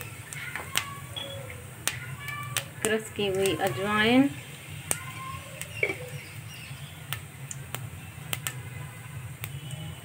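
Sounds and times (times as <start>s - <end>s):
seeds popping in hot oil: 0.0s - 10.0s.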